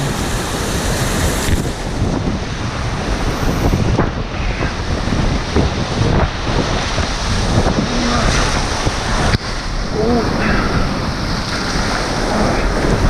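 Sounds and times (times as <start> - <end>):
river rapid rushing: 0.0 - 13.0
wind buffeting microphone: 0.0 - 13.0.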